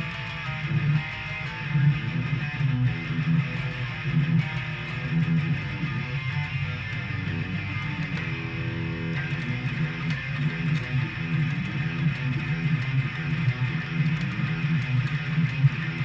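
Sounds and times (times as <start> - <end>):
electric guitar riff: 0.0 - 16.0.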